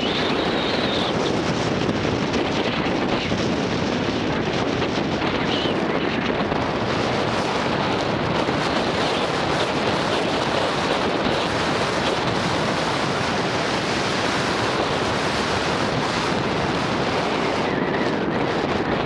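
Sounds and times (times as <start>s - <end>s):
wind rush on microphone: 0.0s - 19.0s.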